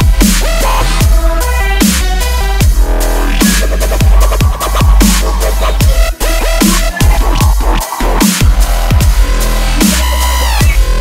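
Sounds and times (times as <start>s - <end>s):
dubstep electronic music: 0.0s - 11.0s.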